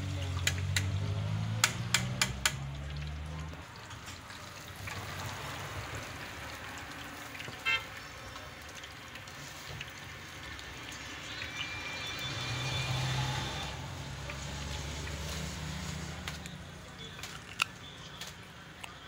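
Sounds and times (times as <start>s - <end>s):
fish deep-frying in oil: 0.0s - 19.0s.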